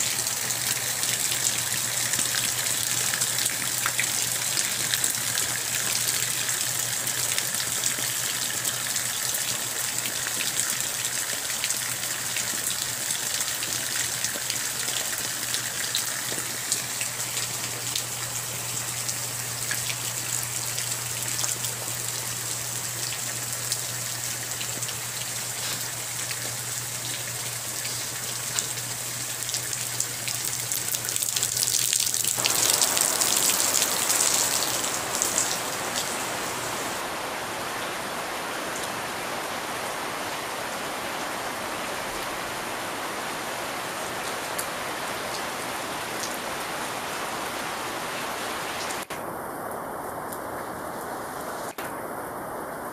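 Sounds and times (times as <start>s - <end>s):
rain falling on scrub: 0.0s - 52.9s.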